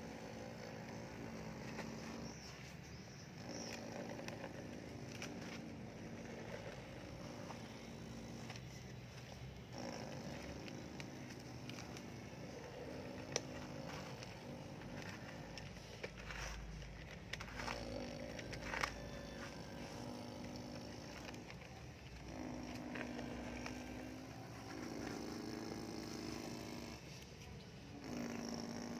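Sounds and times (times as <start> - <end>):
toy excavator motors whining: 0.0 - 28.9.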